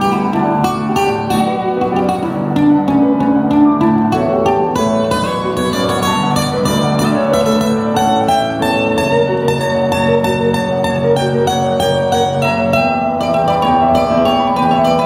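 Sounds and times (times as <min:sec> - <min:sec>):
plucked string instruments playing: 0:00.0 - 0:15.0.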